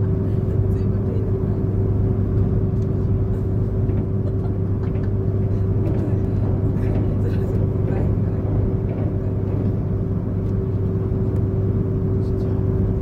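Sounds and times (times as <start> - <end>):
constant low hum: 0.0 - 13.0
train wheels rumbling on rail: 0.0 - 13.0.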